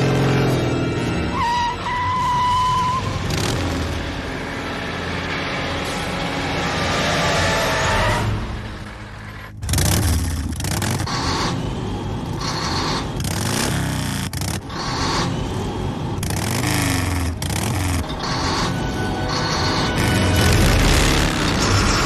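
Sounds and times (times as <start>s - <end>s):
vehicle engines revving: 3.0s - 22.0s.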